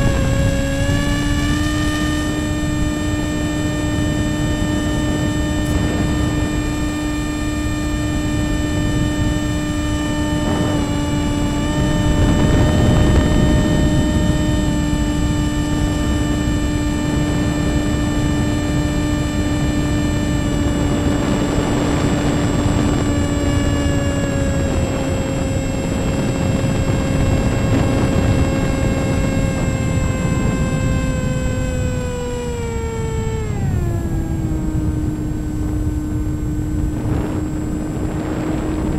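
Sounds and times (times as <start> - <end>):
electric motor and propeller whine: 0.0 - 38.9
wind noise: 0.0 - 38.9.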